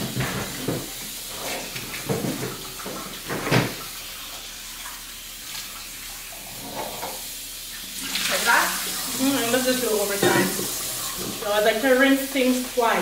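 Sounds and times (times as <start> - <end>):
chicken pieces rinsed by hand: 0.0 - 13.0
tap water running into metal bowl: 0.0 - 13.0.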